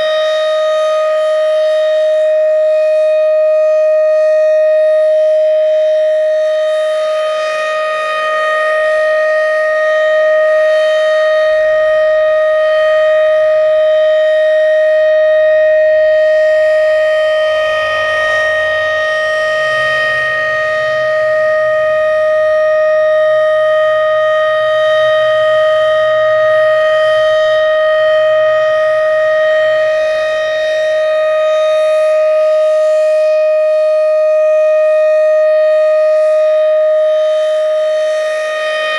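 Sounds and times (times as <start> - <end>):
steady warning siren tone: 0.0 - 38.9.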